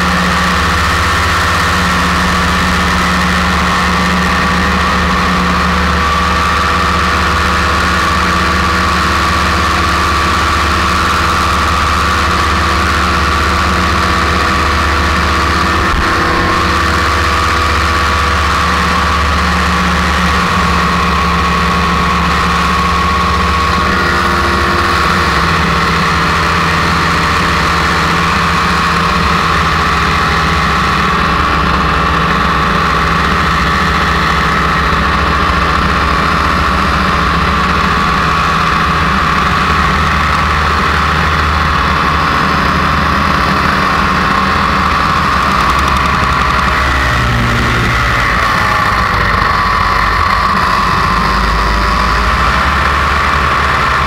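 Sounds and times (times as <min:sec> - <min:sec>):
paramotor engine and propeller: 0:00.0 - 0:54.0.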